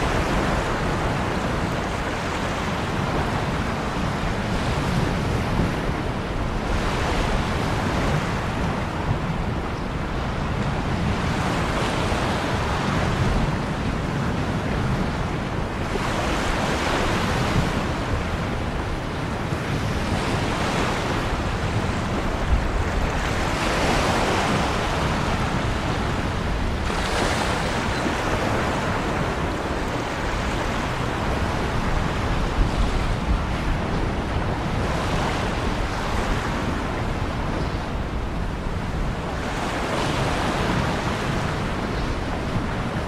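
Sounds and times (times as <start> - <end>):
ocean waves breaking: 0.0 - 43.0.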